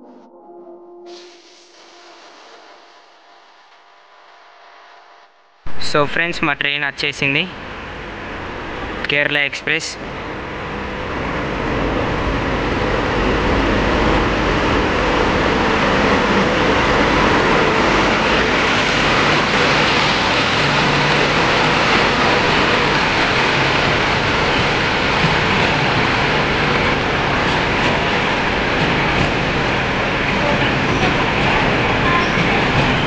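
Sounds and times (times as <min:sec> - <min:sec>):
electric train rolling past: 0:05.7 - 0:33.0.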